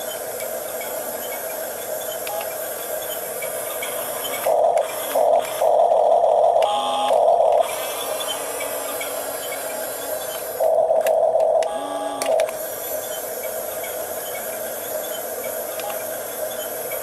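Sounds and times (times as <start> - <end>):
toy electric motors whining: 0.0 - 17.0.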